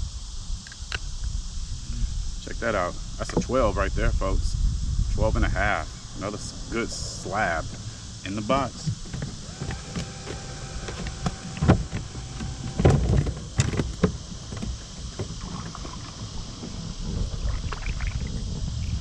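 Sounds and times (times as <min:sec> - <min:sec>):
low rumbling haze: 0:00.0 - 0:19.0.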